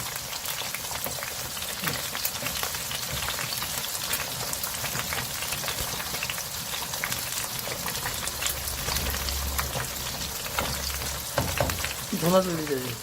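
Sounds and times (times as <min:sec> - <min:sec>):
porridge bubbling and popping: 0:00.0 - 0:13.0.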